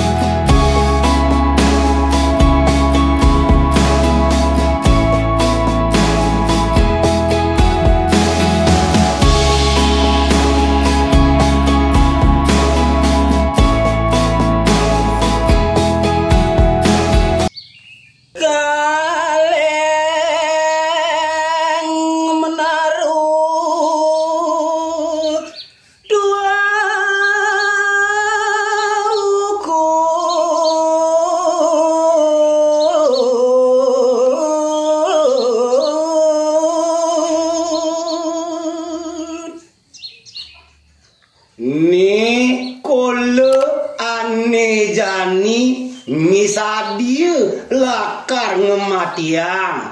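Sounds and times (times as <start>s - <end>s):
person singing unaccompanied: 0.0s - 17.5s, 18.3s - 39.8s, 41.6s - 49.9s.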